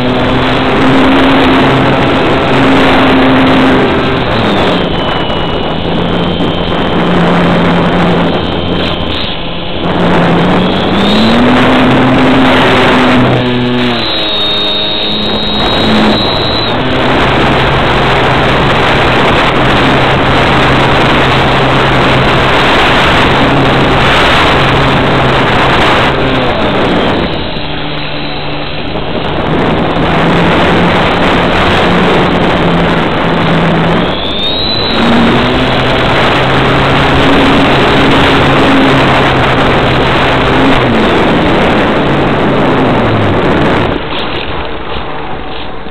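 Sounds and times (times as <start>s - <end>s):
model airplane motor and propeller: 0.0s - 45.9s
wind rush over microphone: 0.0s - 45.9s.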